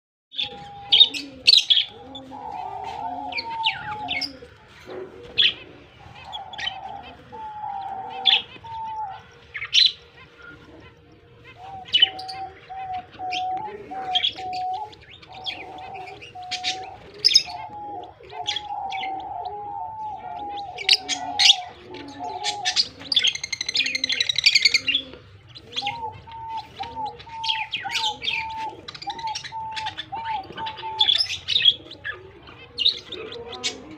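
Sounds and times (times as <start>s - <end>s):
lovebirds chirping: 0.3s - 33.9s.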